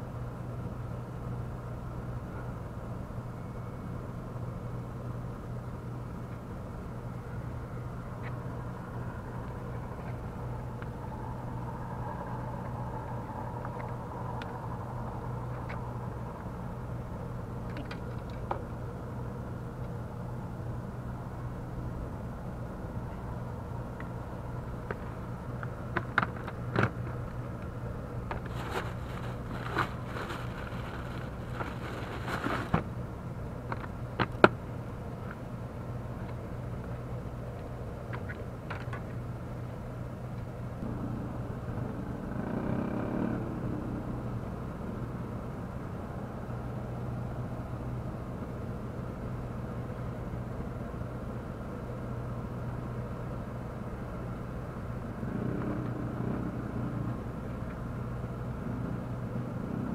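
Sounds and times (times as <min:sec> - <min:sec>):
steady low hum: 0:00.0 - 0:55.4.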